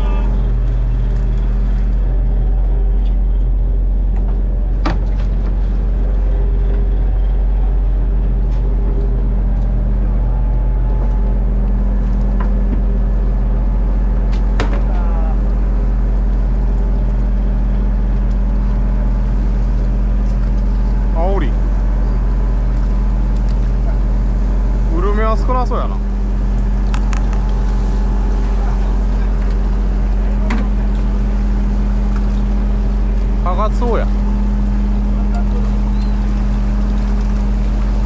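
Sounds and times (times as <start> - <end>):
boat engine humming: 0.0 - 38.0.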